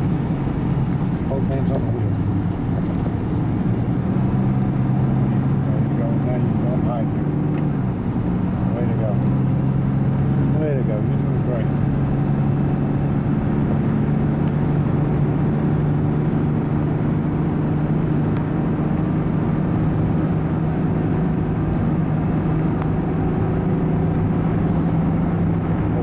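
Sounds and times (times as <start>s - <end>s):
car engine from inside: 0.0s - 26.0s
road noise: 0.0s - 26.0s.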